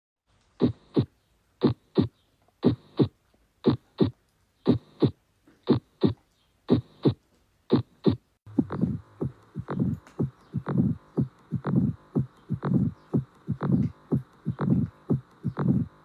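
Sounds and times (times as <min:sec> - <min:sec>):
heart murmur noise: 0:00.6 - 0:16.0
heartbeat: 0:00.6 - 0:16.0.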